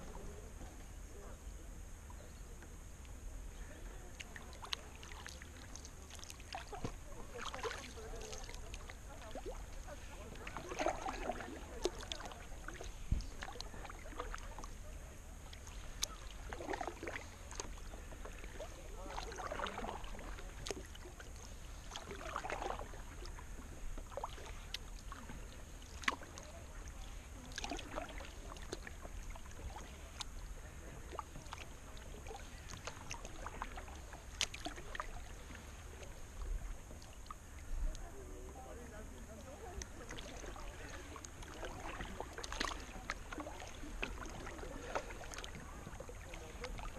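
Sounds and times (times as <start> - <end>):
paddle splashing in water: 2.0 - 46.9.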